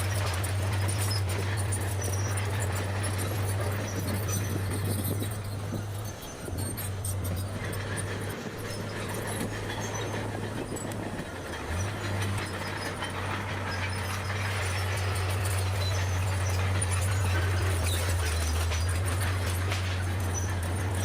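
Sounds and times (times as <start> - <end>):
bulldozer diesel engine drone: 0.0 - 21.0
tracks clattering: 0.0 - 21.0.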